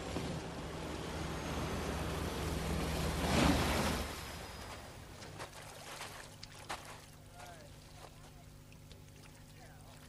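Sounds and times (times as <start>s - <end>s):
water rushing along hull: 0.0s - 10.0s.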